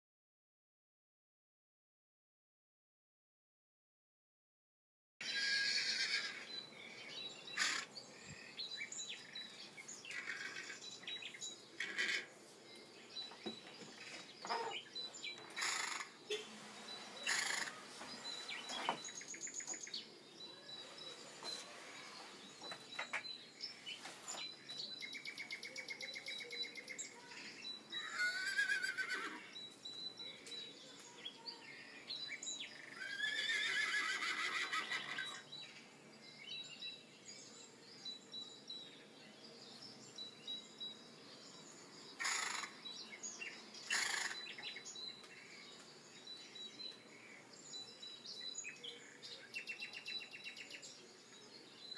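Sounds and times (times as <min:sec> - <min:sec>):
songbirds trilling and chirping: 0:05.2 - 0:51.9.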